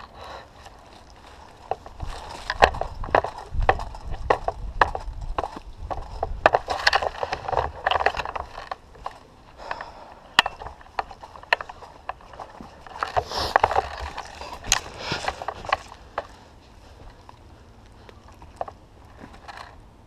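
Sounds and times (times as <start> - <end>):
handling clicks rustles and scrapes: 0.0 - 20.0.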